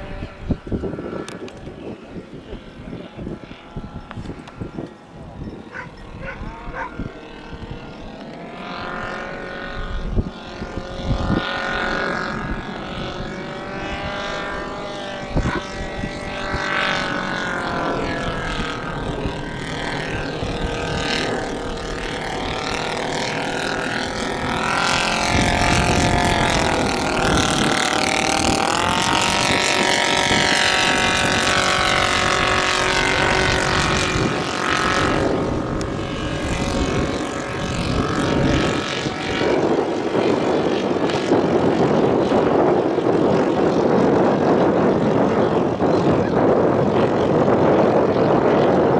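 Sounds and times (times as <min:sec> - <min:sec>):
model aircraft engine and propeller: 0:00.0 - 0:48.9.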